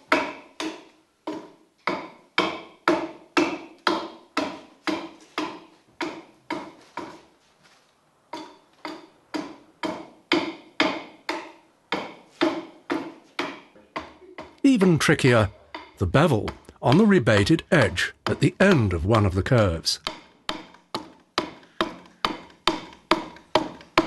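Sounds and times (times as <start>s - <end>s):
adze chopping timber: 0.0s - 7.1s, 8.3s - 24.0s.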